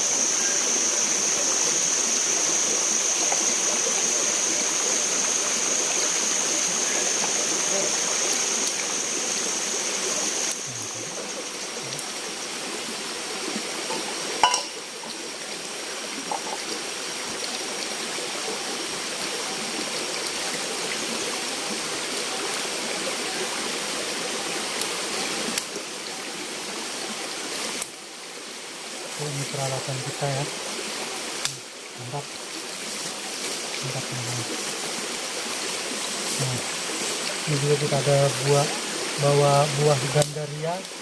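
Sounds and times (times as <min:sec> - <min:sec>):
forest stream rushing: 0:00.0 - 0:41.0.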